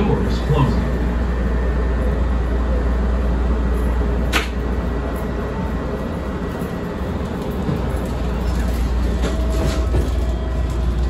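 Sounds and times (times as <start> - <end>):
train wheels rumbling: 0.8 - 11.0.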